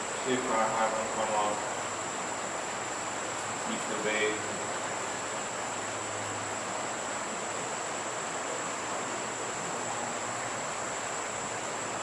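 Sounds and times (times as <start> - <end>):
creek water rushing: 0.0 - 12.0
high-pitched whine: 0.0 - 12.0.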